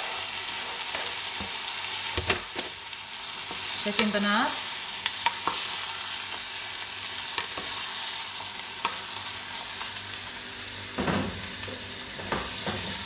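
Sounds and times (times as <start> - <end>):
tomatoes sizzling in pot: 0.0 - 13.0.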